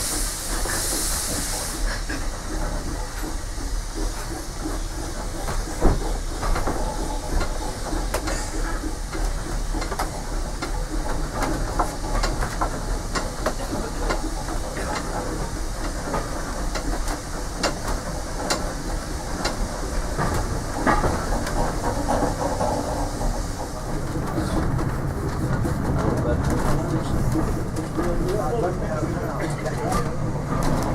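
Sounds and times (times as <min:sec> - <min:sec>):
train running noise: 0:00.0 - 0:30.9
wheels clicking over rail joints: 0:01.8 - 0:30.9.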